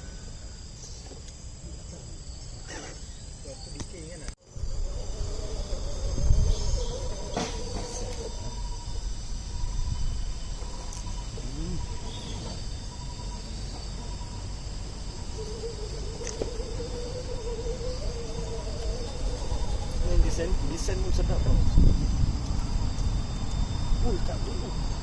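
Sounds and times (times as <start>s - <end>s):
insects chirping: 0.0s - 25.0s
continuous low rumble: 3.8s - 25.0s.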